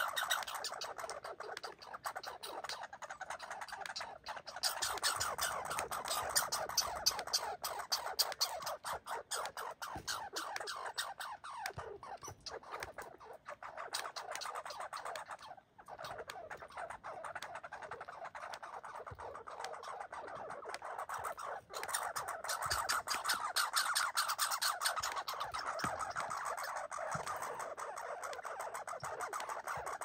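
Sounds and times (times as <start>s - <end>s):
squirrel chattering: 0.0s - 30.0s.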